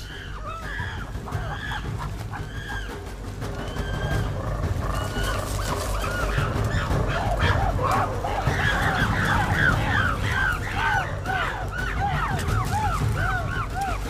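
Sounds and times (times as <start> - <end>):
primates calling: 0.0 - 14.0.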